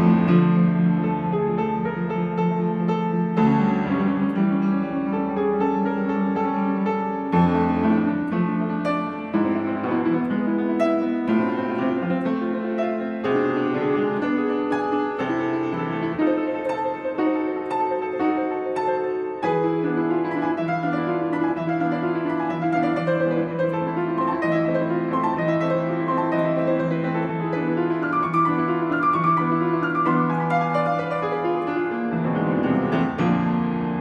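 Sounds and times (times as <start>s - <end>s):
solo classical piano: 0.0s - 34.0s.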